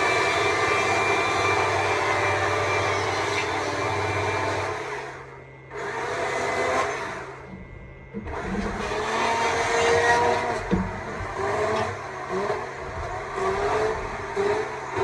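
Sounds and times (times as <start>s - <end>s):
battery chainsaw carving wood: 0.0s - 7.5s, 8.2s - 15.0s.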